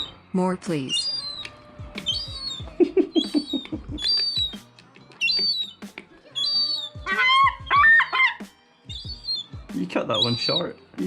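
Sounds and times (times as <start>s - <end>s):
gull chicks peeping: 0.9s - 4.6s, 5.2s - 10.7s.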